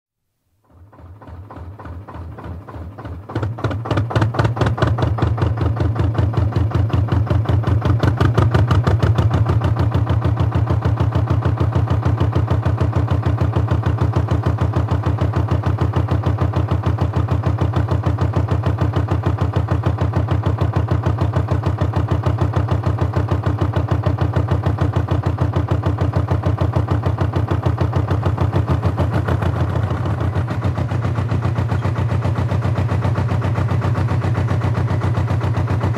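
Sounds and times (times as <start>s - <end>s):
diesel engine running: 0.7s - 35.9s.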